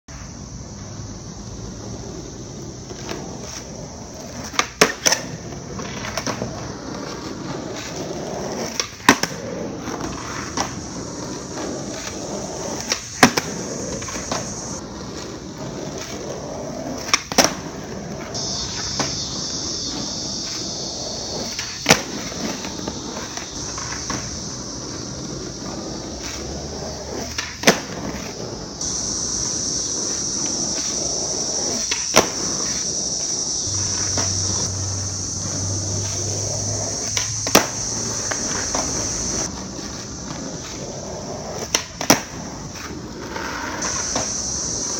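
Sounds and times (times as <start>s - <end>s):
skateboard tail popping and landing: 0.1s - 34.7s, 35.4s - 44.9s
skateboard wheels rolling on asphalt: 0.1s - 44.9s.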